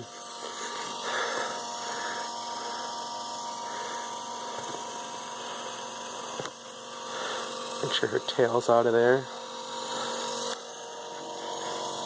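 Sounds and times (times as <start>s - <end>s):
gear motor whining: 0.0s - 12.0s.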